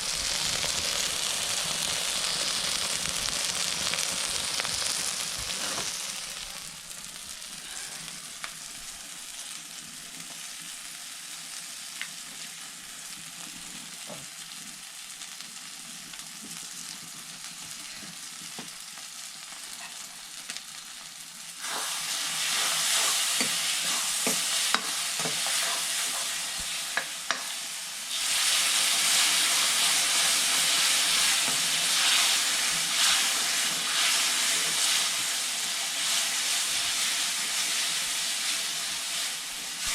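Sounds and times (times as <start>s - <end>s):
food sizzling in a pot: 0.0s - 39.9s.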